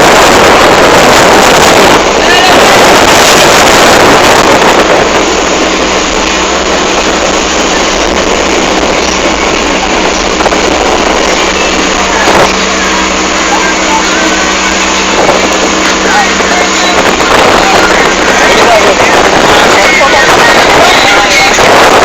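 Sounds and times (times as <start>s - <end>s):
motorboat engine running: 0.0s - 22.0s
wind and water rushing: 0.0s - 22.0s.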